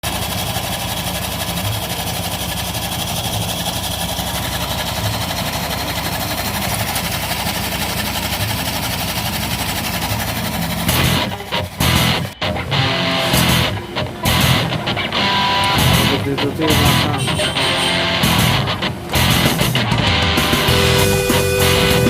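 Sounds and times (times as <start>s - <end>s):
scooter engine with rough rattle: 0.0s - 22.0s.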